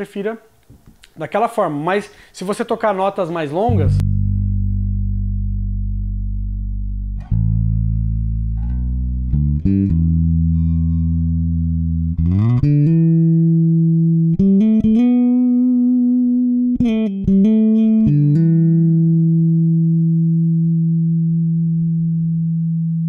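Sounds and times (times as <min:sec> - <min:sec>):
electric bass notes: 0:03.7 - 0:23.0.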